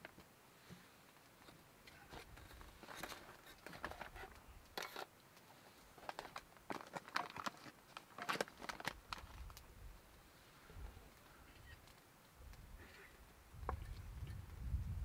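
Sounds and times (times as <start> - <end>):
rustling and crinkling: 0.0 - 14.9.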